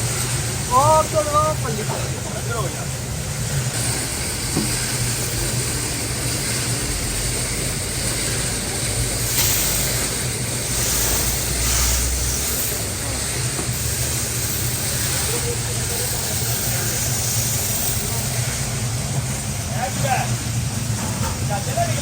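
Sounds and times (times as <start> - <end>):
machinery hissing: 0.0 - 22.0
machinery humming: 0.0 - 22.0.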